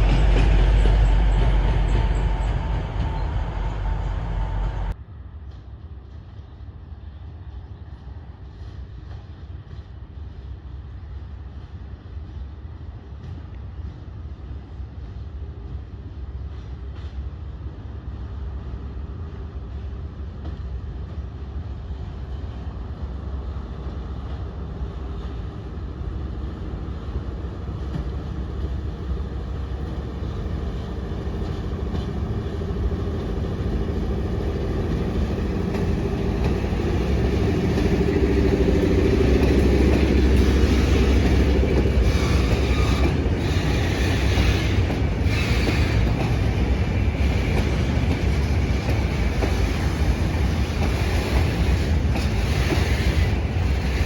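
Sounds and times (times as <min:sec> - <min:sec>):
train engine rumbling: 0:00.0 - 0:54.0.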